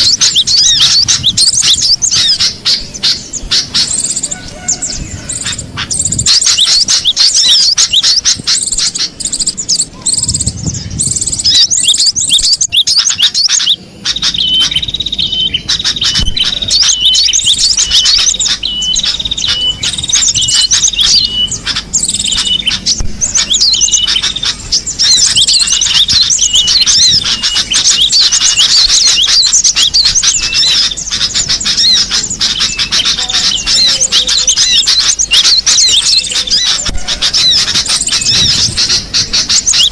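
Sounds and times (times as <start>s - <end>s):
tit chirping and singing: 0.0s - 39.9s.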